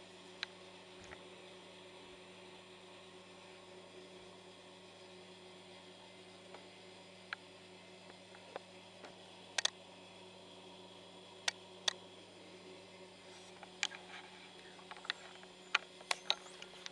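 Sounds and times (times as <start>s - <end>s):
faint electrical hum: 0.0s - 16.9s.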